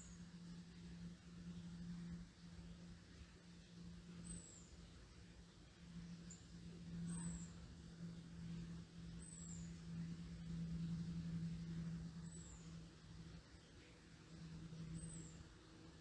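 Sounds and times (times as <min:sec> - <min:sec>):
aircraft drone overhead: 0:00.0 - 0:16.0.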